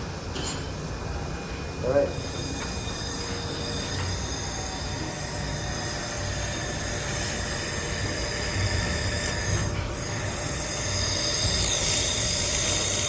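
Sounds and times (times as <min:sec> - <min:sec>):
laser welder hiss and whine: 0:00.0 - 0:13.0.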